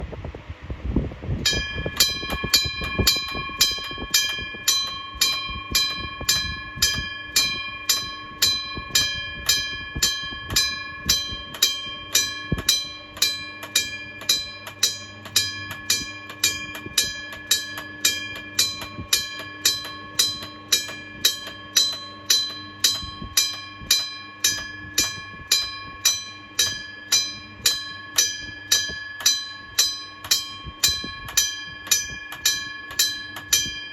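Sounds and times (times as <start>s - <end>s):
level crossing warning bell ringing: 1.4s - 33.9s.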